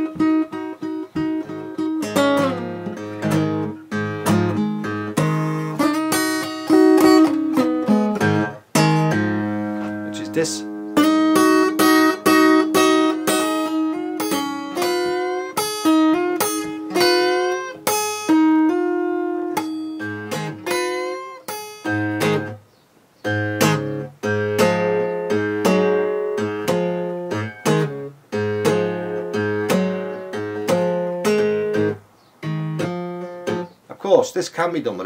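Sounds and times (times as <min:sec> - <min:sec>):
fingerstyle acoustic blues guitar: 0:00.0 - 0:33.9.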